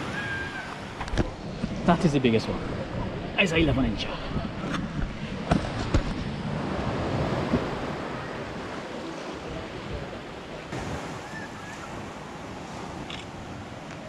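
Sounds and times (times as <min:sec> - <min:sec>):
surf washing against rocks: 0:00.0 - 0:14.0.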